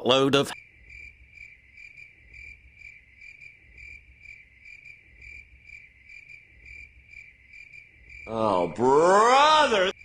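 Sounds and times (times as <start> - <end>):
cricket chirping: 0.1 - 9.2.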